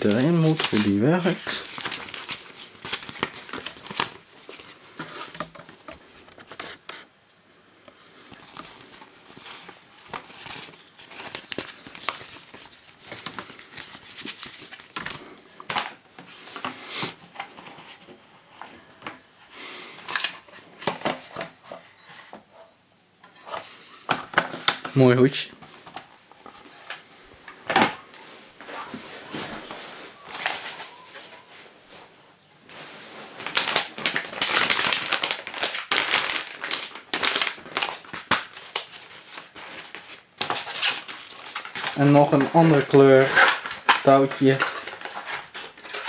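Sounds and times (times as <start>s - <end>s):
paper and cardboard rustling: 0.0s - 7.2s, 8.2s - 19.2s, 20.0s - 32.1s, 32.7s - 46.0s.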